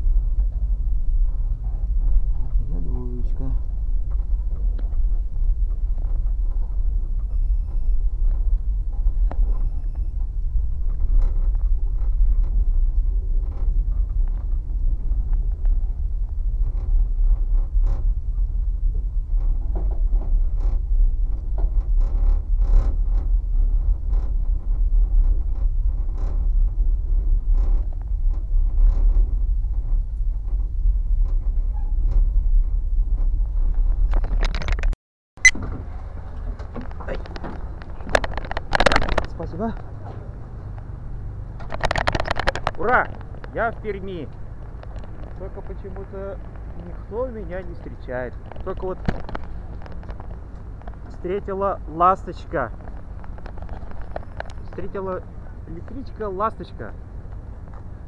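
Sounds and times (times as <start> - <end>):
train rumble: 0.0 - 34.9, 35.7 - 58.0.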